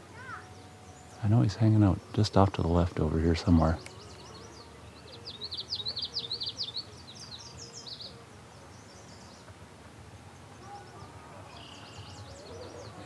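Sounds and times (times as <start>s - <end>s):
low outdoor background: 0.0s - 13.0s
songbird chirping: 0.0s - 13.0s.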